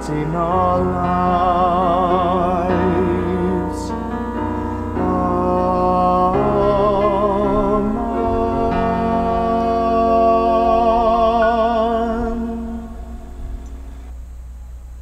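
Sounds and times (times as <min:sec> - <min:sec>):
hymn with keyboard chords: 0:00.0 - 0:14.2.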